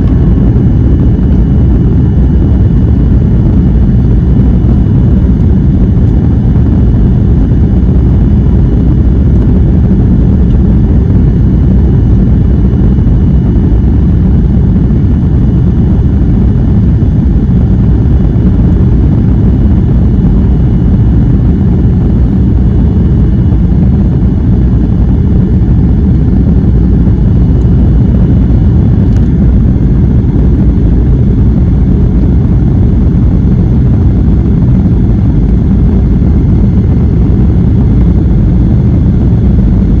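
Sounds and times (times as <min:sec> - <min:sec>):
jet engine cabin rumble: 0:00.0 - 0:40.0.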